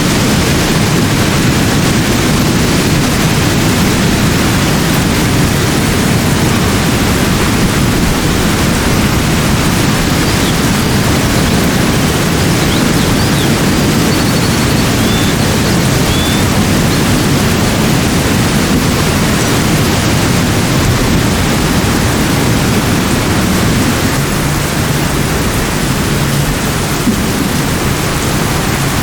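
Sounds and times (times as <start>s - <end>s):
steady low rushing noise: 0.0s - 29.0s.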